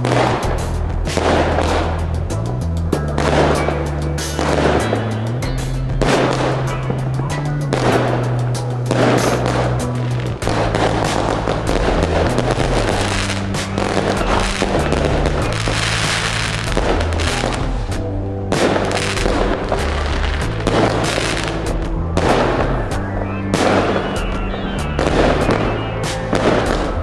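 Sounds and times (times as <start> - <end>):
fireworks cracking and bursting: 0.0 - 2.4, 3.0 - 27.0
background music with bass line: 0.0 - 27.0.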